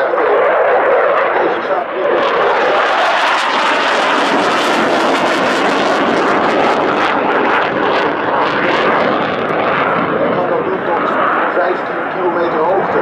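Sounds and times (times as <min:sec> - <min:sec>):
fighter jet roar with crackle: 0:00.0 - 0:13.0.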